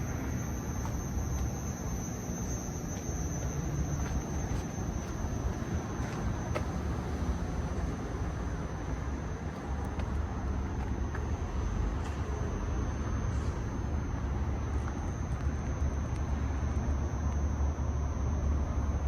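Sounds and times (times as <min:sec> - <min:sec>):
railcar low rumble: 0:00.0 - 0:19.0.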